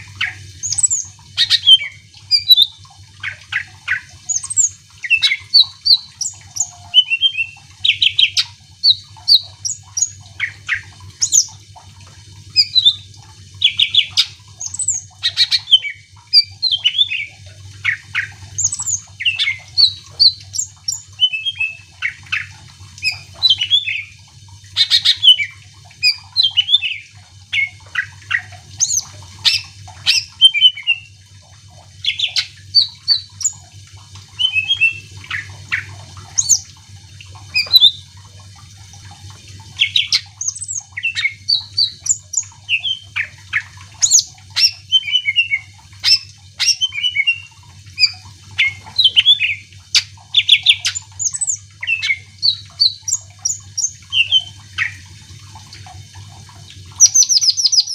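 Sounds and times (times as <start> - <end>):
bird singing chirps and whistles: 0.2 - 11.5, 12.5 - 24.2, 24.8 - 31.2, 32.0 - 33.6, 34.4 - 36.6, 37.5 - 38.0, 39.8 - 55.0, 57.0 - 57.9.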